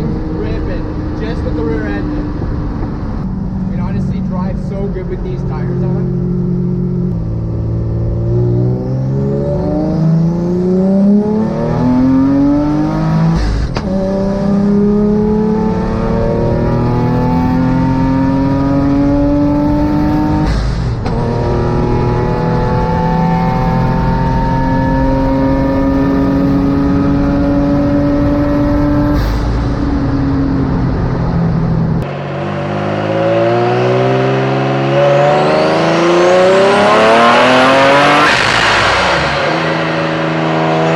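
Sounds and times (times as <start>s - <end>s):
car engine accelerating through gears: 0.0s - 40.9s.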